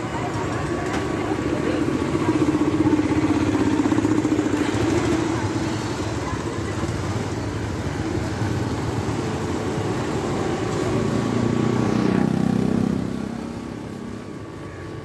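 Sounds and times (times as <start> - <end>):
motorbikes: 0.0 - 15.0
road traffic passing: 0.0 - 15.0
vehicle engine: 0.0 - 15.0.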